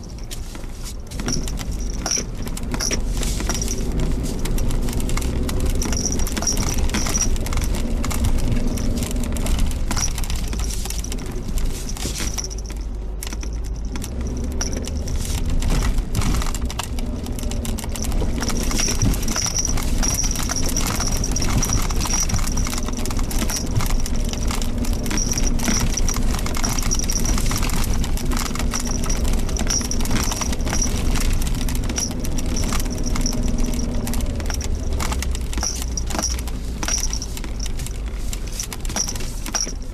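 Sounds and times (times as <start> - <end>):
car engine and road hum: 0.0 - 39.9
vehicle rattling and clicking: 0.0 - 39.9.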